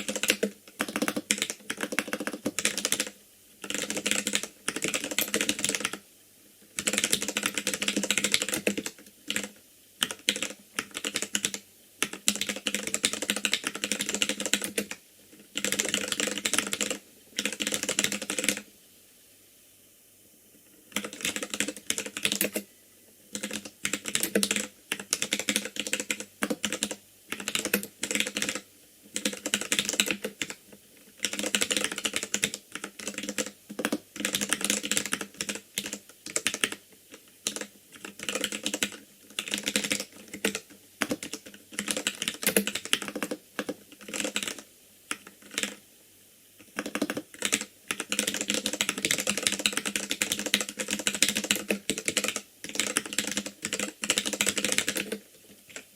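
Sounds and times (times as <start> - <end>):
mechanical keyboard typing: 0.0 - 6.0, 6.7 - 18.6, 20.9 - 22.7, 23.3 - 45.8, 46.6 - 55.9.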